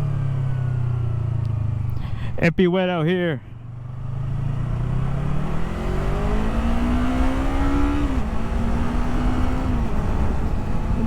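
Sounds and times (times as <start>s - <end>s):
motorcycle engine accelerating: 0.0s - 2.2s, 3.5s - 11.0s
wind and road noise: 0.0s - 11.0s.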